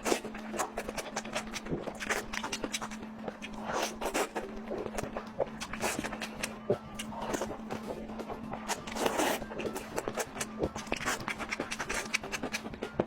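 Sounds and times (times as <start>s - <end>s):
chewing and mouth noises: 0.0s - 13.0s.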